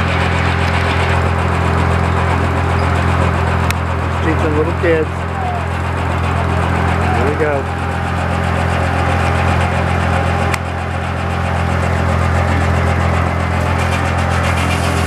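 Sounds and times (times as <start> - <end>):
sawmill drone: 0.0 - 15.0.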